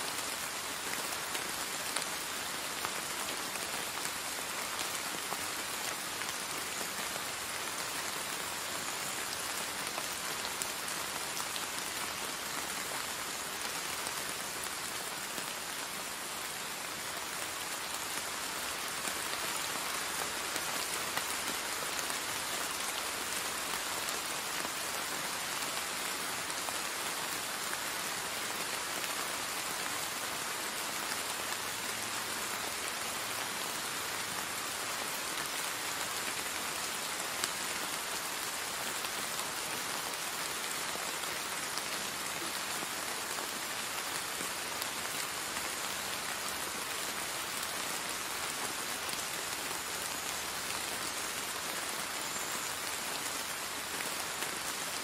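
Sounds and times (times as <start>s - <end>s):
rain on ground and foliage: 0.0s - 55.0s.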